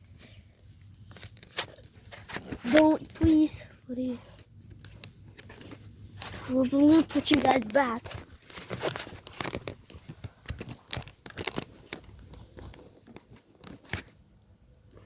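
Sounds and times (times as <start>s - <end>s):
objects crinkling and clicking: 0.2s - 3.5s, 4.3s - 15.0s.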